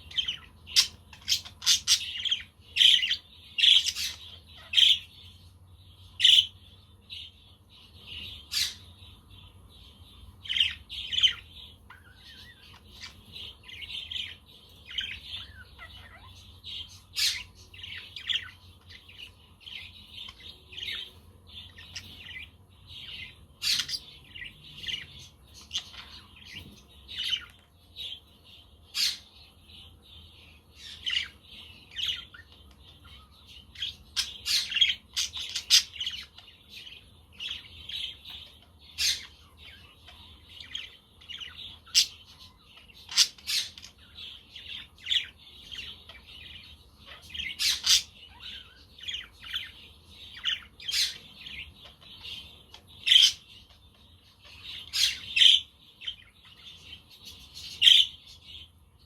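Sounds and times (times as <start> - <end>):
budgerigars chattering and chirping: 0.0 - 58.8.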